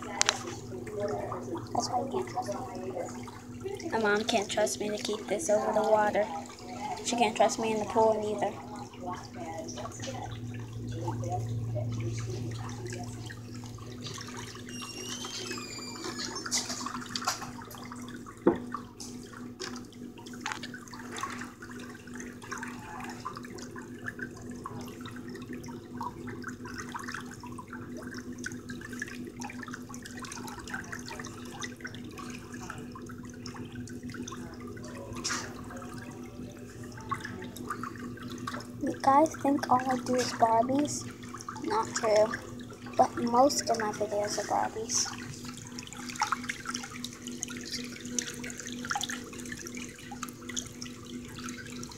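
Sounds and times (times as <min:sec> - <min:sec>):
pump humming: 0:00.0 - 0:51.9
whirlpool water bubbling: 0:00.0 - 0:51.9.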